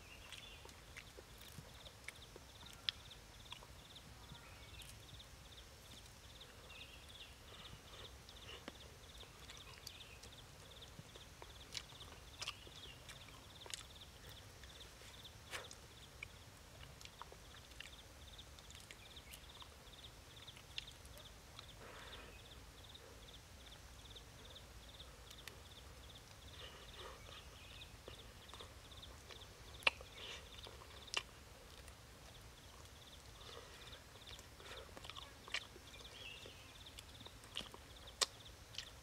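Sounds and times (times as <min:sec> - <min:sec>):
soft chewing: 0:00.0 - 0:39.0.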